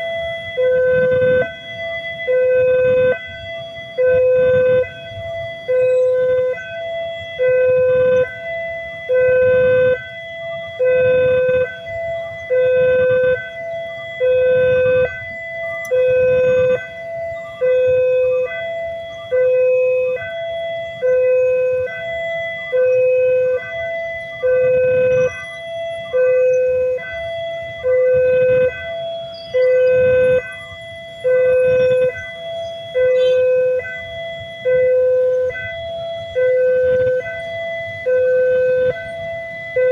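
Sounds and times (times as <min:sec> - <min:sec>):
two-tone level crossing alarm: 0:00.0 - 0:39.9.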